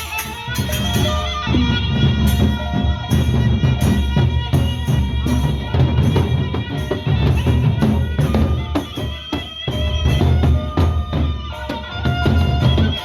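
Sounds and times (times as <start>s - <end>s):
barrel drums beating quickly: 0.0s - 13.0s
clashing cymbals: 0.0s - 13.0s.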